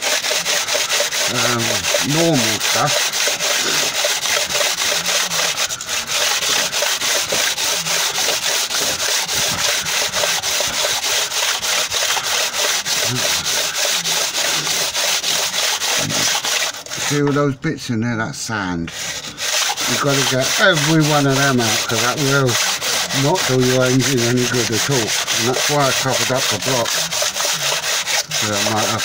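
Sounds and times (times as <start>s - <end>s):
sandpaper rubbing on metal: 0.0s - 17.6s, 18.9s - 29.0s.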